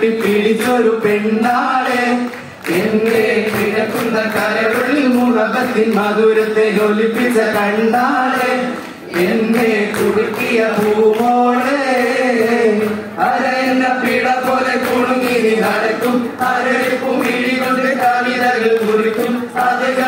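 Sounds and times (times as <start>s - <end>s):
group of men singing: 0.0s - 20.0s.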